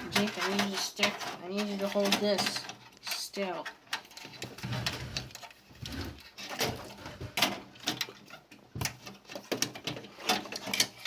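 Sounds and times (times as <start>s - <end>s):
computer parts clicking and knocking: 0.0s - 11.0s.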